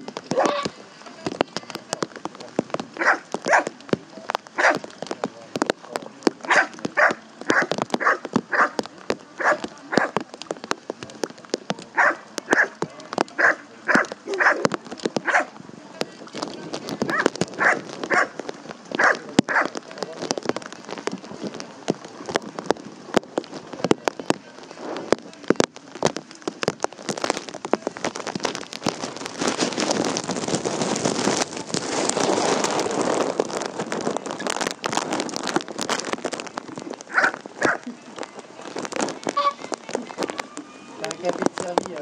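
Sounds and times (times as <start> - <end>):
rain pattering: 0.0 - 42.0.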